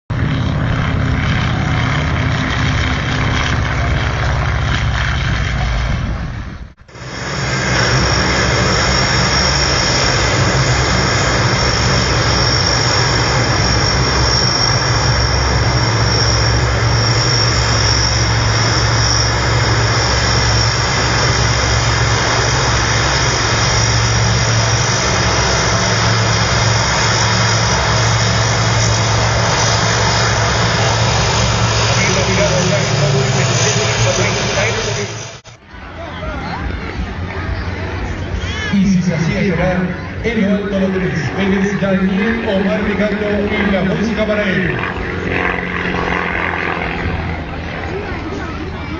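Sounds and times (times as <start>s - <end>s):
engine noise with high whine: 0.1s - 48.9s.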